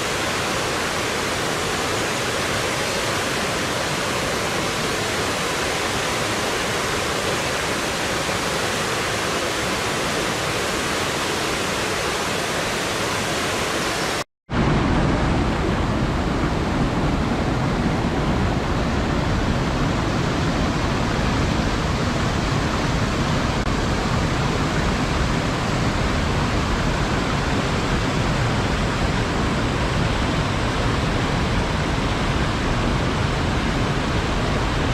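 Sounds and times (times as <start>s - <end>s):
waterfall rushing water: 0.0s - 34.9s.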